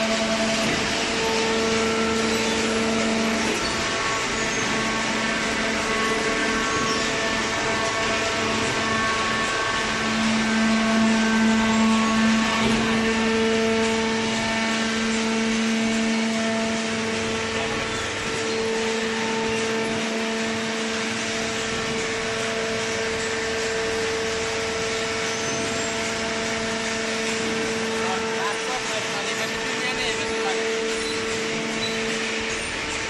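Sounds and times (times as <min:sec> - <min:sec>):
baler machine humming: 0:00.0 - 0:33.0.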